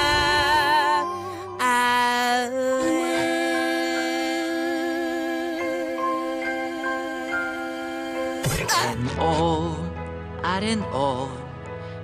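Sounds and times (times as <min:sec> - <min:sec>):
instrumental song accompaniment: 0:00.0 - 0:12.0.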